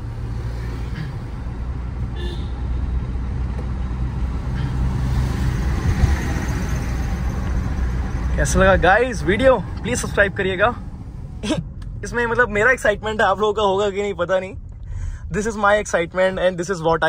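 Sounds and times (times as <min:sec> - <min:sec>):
road noise: 0:00.0 - 0:17.0
diesel engine accelerating: 0:02.7 - 0:16.5.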